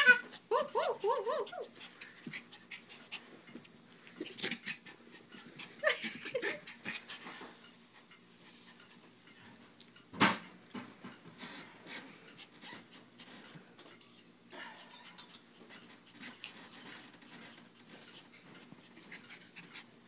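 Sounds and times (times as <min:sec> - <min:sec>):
puppy panting: 0:00.3 - 0:09.6, 0:11.4 - 0:13.7, 0:14.9 - 0:20.0.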